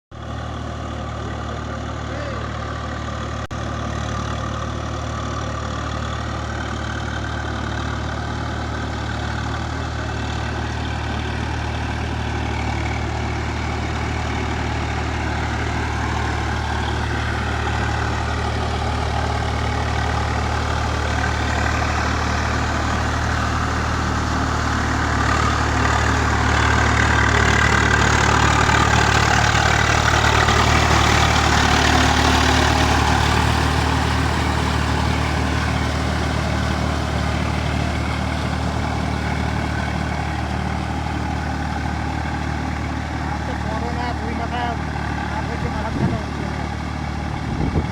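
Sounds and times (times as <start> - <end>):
tractor engine running: 0.1 - 47.9.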